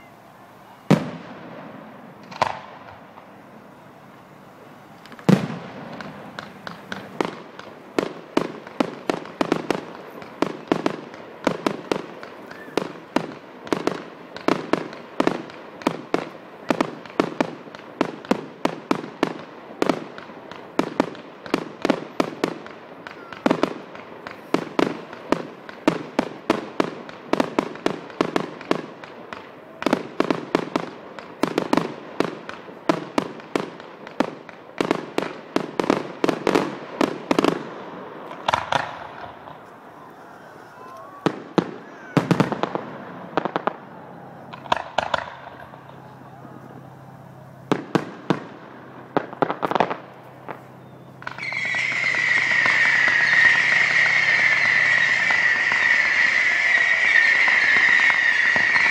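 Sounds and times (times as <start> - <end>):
firework shells bursting: 0.9 - 4.3, 4.9 - 37.6, 38.2 - 58.9.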